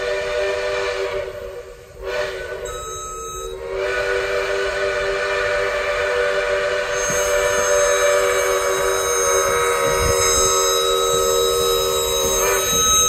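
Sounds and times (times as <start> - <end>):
steam locomotive chime whistle: 0.0 - 13.0.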